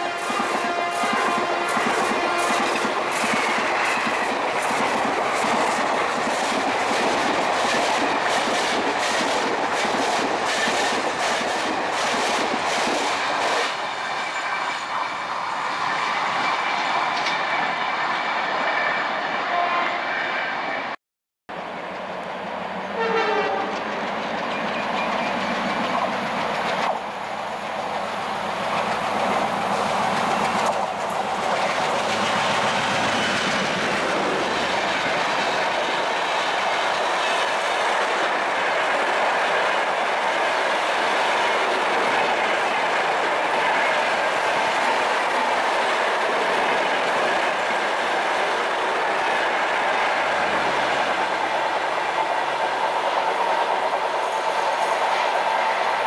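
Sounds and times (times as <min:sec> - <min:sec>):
clickety-clack over rail joints: 0:00.0 - 0:15.2, 0:15.9 - 0:18.4, 0:23.0 - 0:27.2, 0:28.7 - 0:56.0
train wheels roaring on rail: 0:00.0 - 0:56.0.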